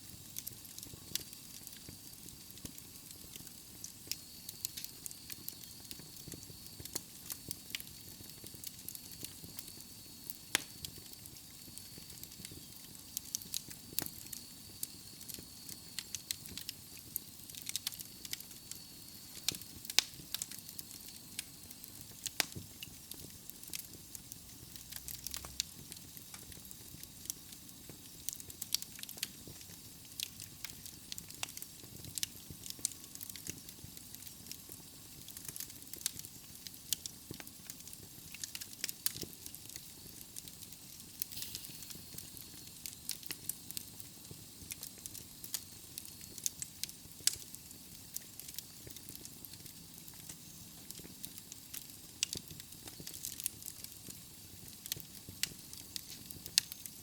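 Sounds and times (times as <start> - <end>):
fire hissing: 0.0 - 57.0
logs crackling and popping: 0.1 - 57.0.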